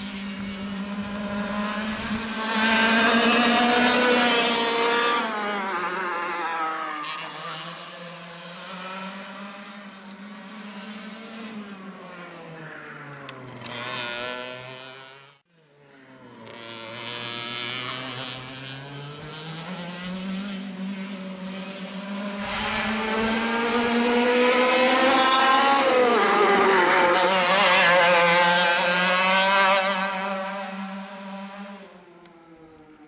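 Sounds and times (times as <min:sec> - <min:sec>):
kart engines buzzing: 0:00.0 - 0:33.0.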